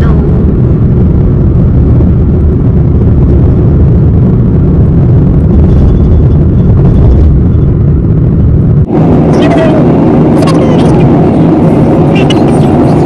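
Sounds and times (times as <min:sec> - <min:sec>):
wind and road noise in car: 0:00.0 - 0:13.0.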